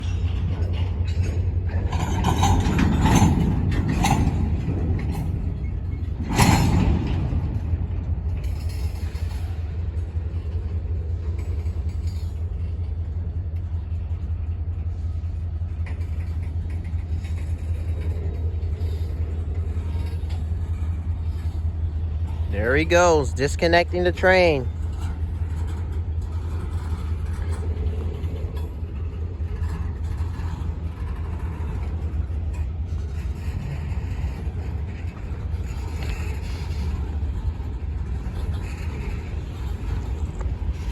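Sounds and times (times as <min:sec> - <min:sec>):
diesel locomotive engine idling: 0:00.0 - 0:40.9.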